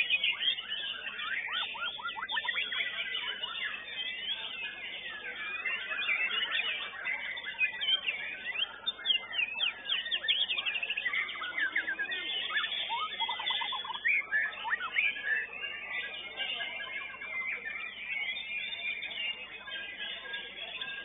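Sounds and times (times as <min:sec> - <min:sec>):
fast rattling bird trill: 0:00.0 - 0:04.6, 0:05.5 - 0:21.0
songbirds whistling and chirping: 0:00.0 - 0:21.0.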